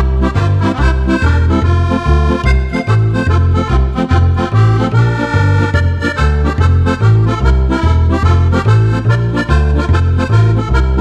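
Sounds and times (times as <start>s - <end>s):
digital accordion playing lively tune: 0.0s - 11.0s.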